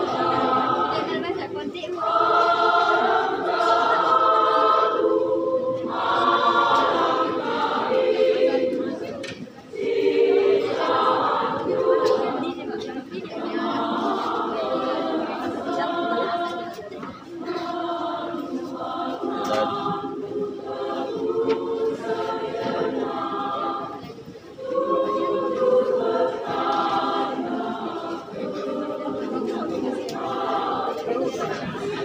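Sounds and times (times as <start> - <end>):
women's choir singing a cappella: 0.0 - 32.0.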